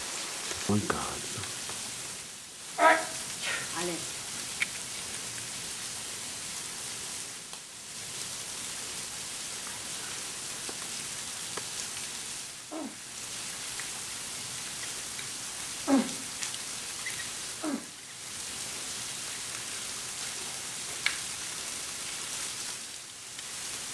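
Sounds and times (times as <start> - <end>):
background hiss: 0.0 - 23.9.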